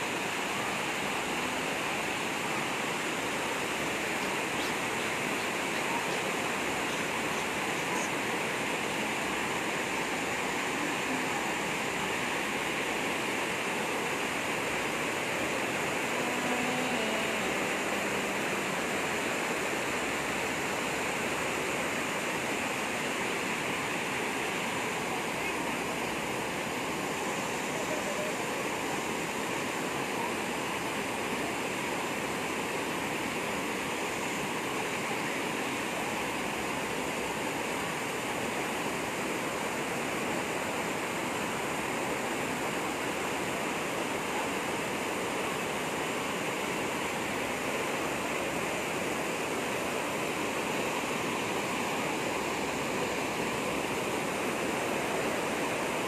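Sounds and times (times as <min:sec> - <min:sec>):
water gushing: 0:00.0 - 0:56.0.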